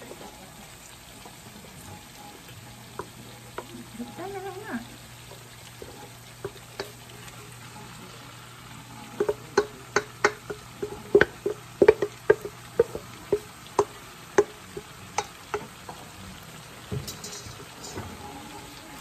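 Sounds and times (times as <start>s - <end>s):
food sizzling in oil: 0.0s - 19.0s
spatula scraping pan: 1.2s - 19.0s.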